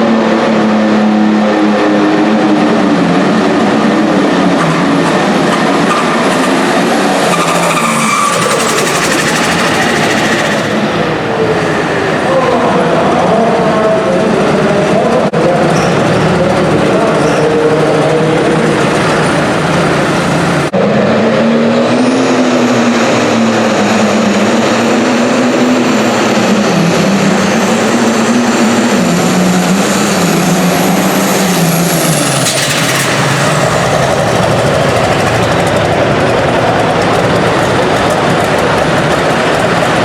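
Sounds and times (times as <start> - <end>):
diesel tractor engine at full throttle: 0.0 - 40.0
high turbo whine: 0.0 - 40.0.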